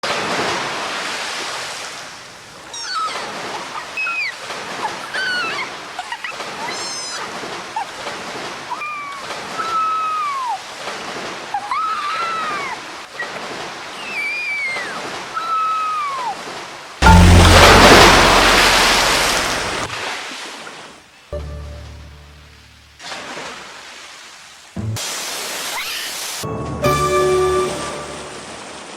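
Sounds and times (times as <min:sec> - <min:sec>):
rushing water: 0:00.0 - 0:28.9.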